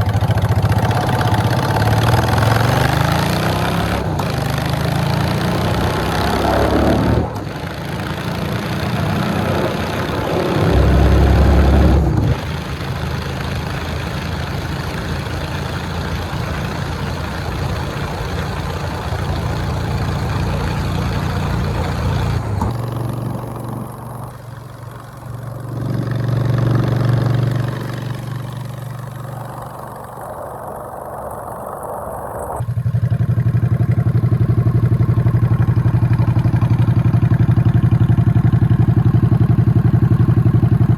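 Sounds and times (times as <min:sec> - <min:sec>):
motorcycle engine running: 0:00.0 - 0:31.7, 0:32.6 - 0:40.9.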